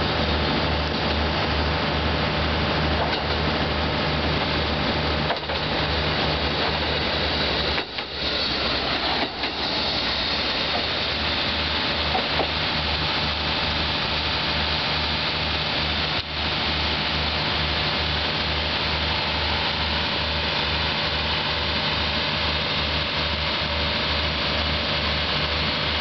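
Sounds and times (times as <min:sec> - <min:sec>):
diesel railcar engine humming: 0:00.0 - 0:26.0
steady hiss: 0:04.2 - 0:26.0.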